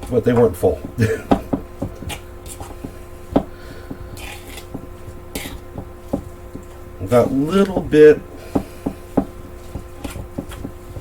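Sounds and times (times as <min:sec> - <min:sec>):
utensil knocking against bowl: 0:00.0 - 0:11.0
utensil scraping bowl: 0:00.0 - 0:11.0.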